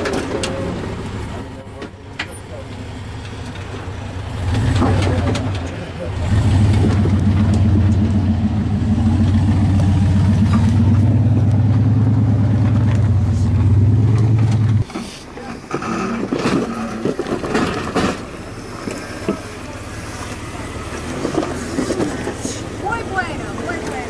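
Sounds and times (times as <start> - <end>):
engine running at low speed: 0.1 - 24.0.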